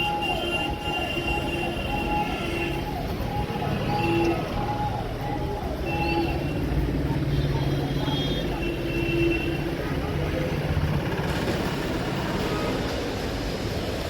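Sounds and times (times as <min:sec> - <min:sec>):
vehicle noise rumble: 0:00.0 - 0:14.0.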